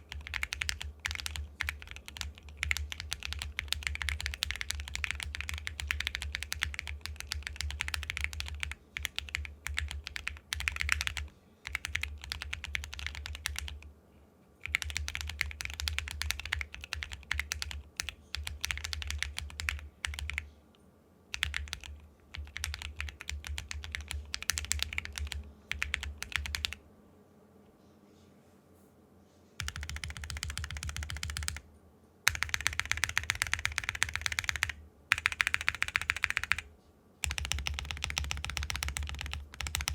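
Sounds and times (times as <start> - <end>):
mechanical keyboard typing: 0.0 - 13.8, 14.6 - 20.5, 21.3 - 26.8, 29.6 - 31.6, 32.3 - 39.9.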